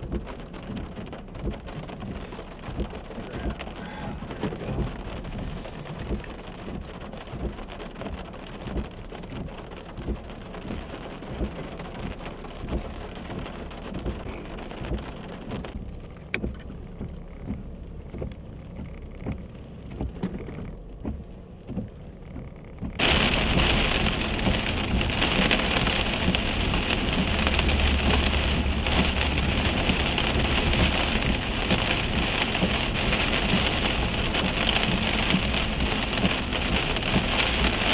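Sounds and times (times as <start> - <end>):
heavy rain pelting a vehicle: 0.0 - 37.9
steady rain falling: 0.0 - 37.9.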